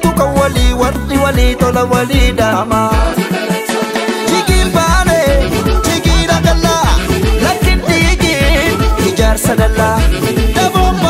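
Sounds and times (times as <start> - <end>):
song with melodic line: 0.0 - 11.0.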